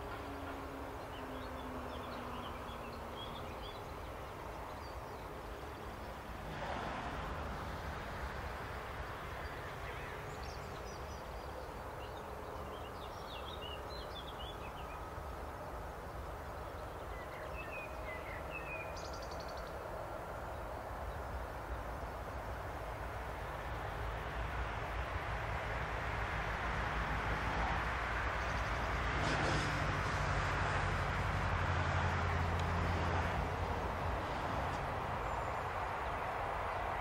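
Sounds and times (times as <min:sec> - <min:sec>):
freight train low rumble: 0:00.0 - 0:37.0.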